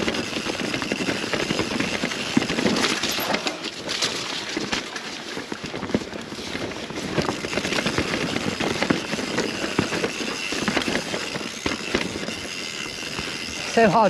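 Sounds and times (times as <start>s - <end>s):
bike clattering: 0.0s - 14.0s
bike tyres on rough ground: 0.0s - 14.0s.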